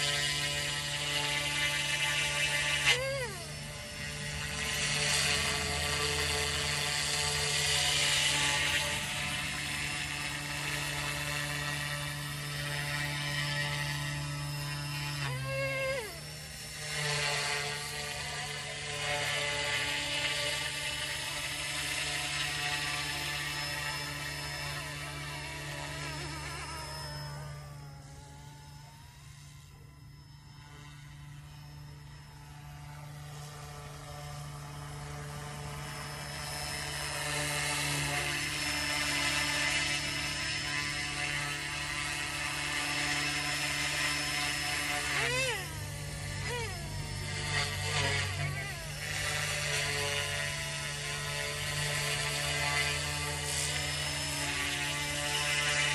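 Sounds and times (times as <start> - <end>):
rc helicopter rotor whir: 0.0 - 55.9.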